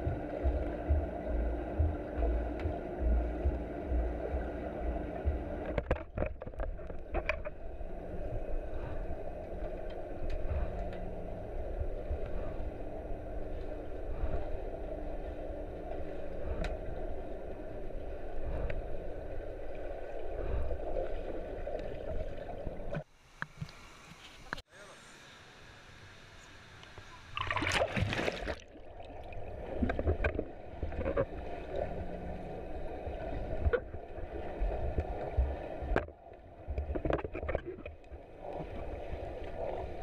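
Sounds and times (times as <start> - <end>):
muffled underwater rushing: 0.0 - 23.0, 27.4 - 40.0.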